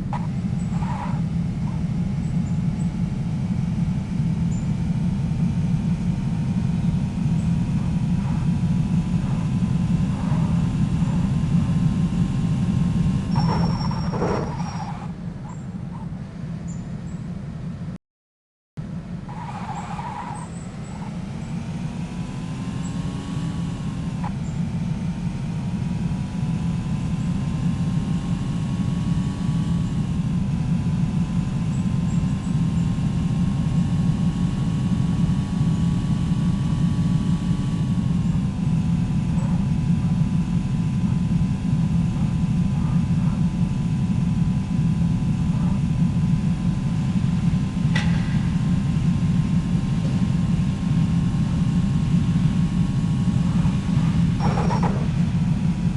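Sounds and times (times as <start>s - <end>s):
faint whine: 0.0s - 18.0s, 18.8s - 55.9s
vehicle engine and road rumble: 0.0s - 18.0s, 18.8s - 55.9s.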